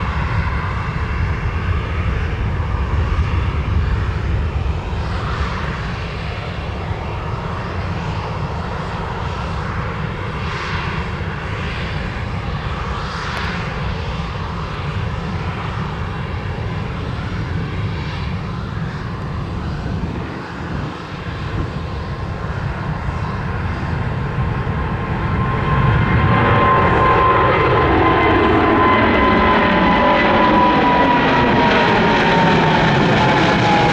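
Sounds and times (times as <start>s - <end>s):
high jet engine whine: 0.0s - 33.9s
jet engine rumble: 0.0s - 33.9s.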